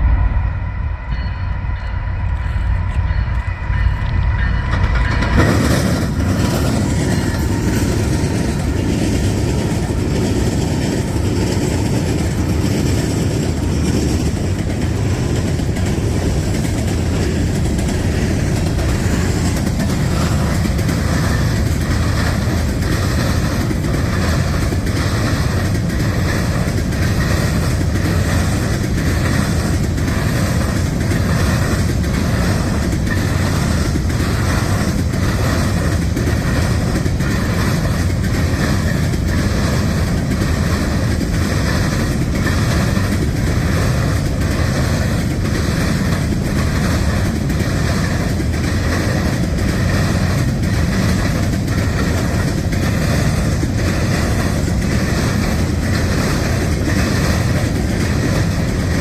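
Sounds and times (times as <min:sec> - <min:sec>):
train rumbling past: 0:00.0 - 0:59.0
wheels clicking over rail joints: 0:04.5 - 0:59.0.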